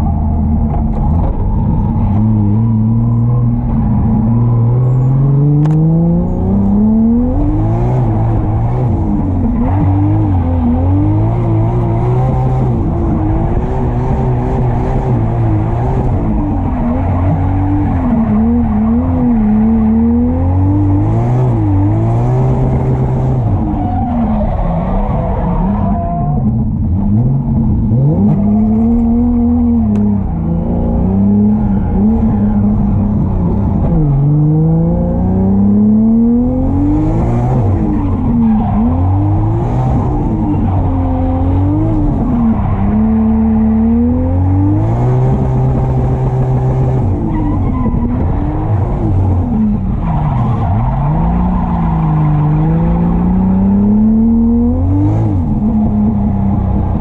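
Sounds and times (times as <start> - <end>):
car engine revving high: 0.0 - 24.6, 25.2 - 57.0.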